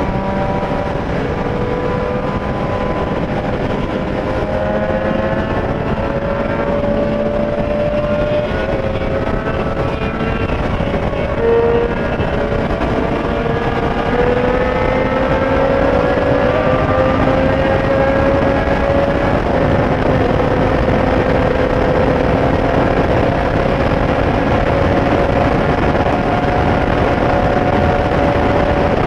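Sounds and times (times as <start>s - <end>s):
motorcycle engine at speed: 0.0s - 29.0s
wind noise rushing: 0.0s - 29.0s.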